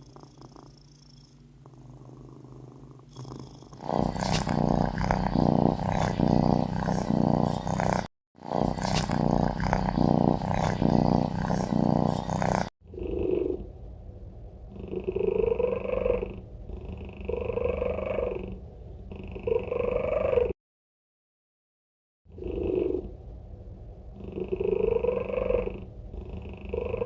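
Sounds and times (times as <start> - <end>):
cat purring: 0.0 - 13.7, 14.7 - 20.6, 22.4 - 23.1, 24.2 - 27.0.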